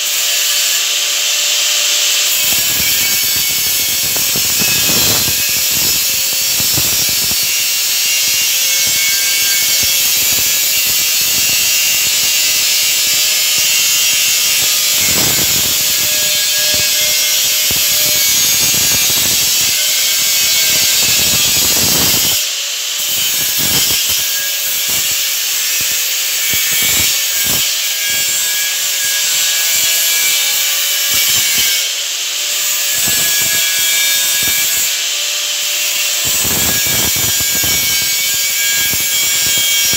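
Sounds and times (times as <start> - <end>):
angle grinder on metal: 0.0 - 39.9.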